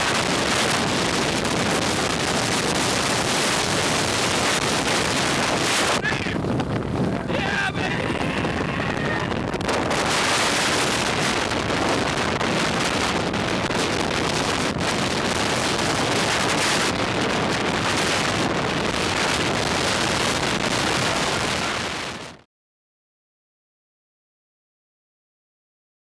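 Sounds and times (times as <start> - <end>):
strong wind on microphone: 0.0 - 22.5.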